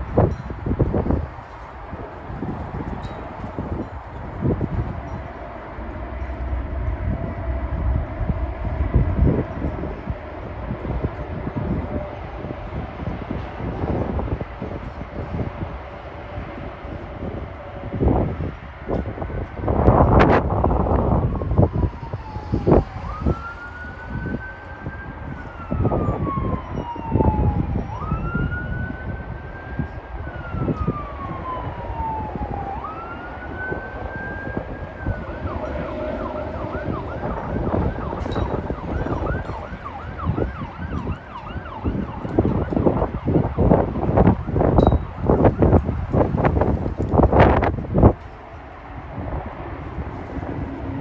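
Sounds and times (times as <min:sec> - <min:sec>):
emergency vehicle siren: 0:00.0 - 0:51.0
wind buffeting microphone: 0:00.0 - 0:51.0.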